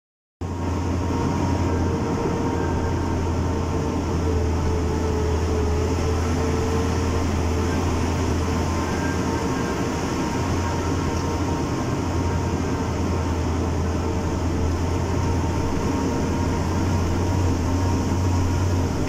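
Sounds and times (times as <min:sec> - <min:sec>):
vehicle engine and tyre hum: 0:00.4 - 0:19.0.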